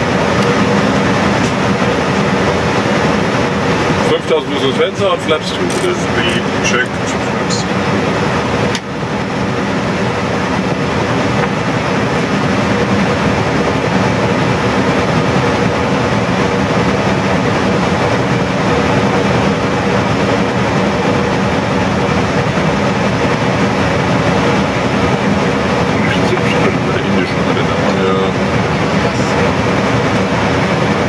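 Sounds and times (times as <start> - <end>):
airflow and engine noise: 0.0 - 31.0.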